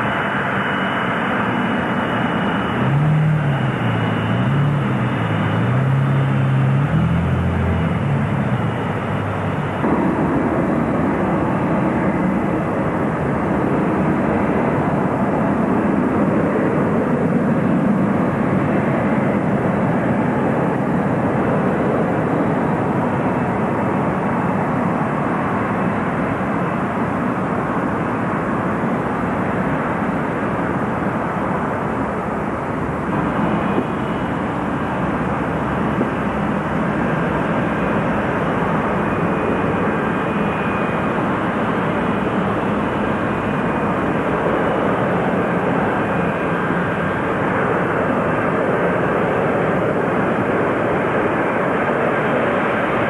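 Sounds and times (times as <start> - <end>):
jet engines rumbling: 0.0 - 53.0
thin high jet whine: 0.0 - 53.0.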